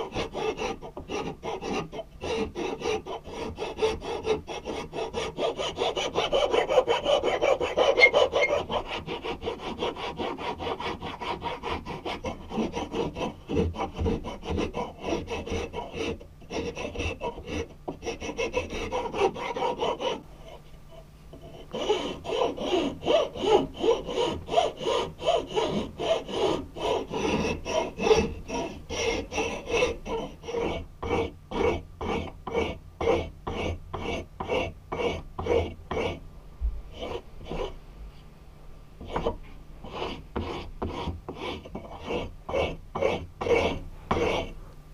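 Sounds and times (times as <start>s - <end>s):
hand file rasping on wood: 0.0s - 36.2s, 36.9s - 37.8s, 39.0s - 44.6s.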